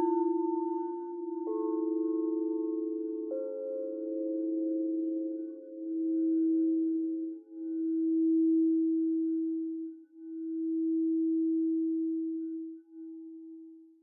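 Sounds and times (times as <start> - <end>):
singing bowl low tone: 0.0 - 14.0.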